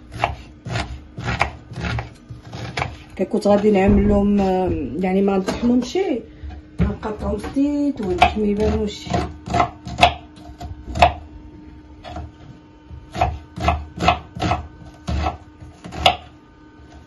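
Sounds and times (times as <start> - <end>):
knife chopping onion on wooden board: 0.0 - 5.8, 6.8 - 11.2, 12.0 - 12.3, 12.9 - 16.3.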